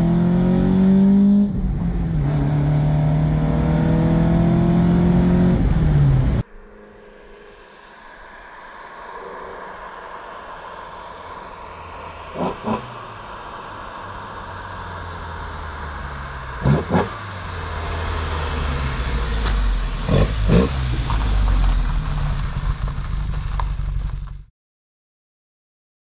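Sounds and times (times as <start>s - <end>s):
car engine driving up: 0.0s - 6.4s, 8.7s - 24.5s.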